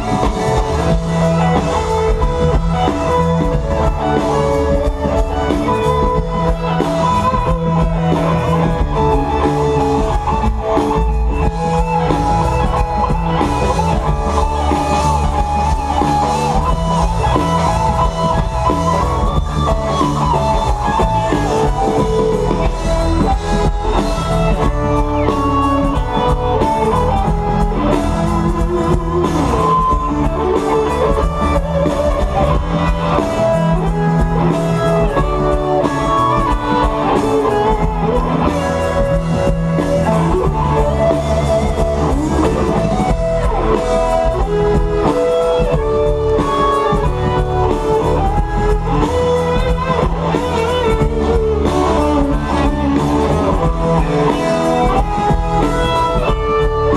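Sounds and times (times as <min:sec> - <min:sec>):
live band playing: 0:00.0 - 0:56.9.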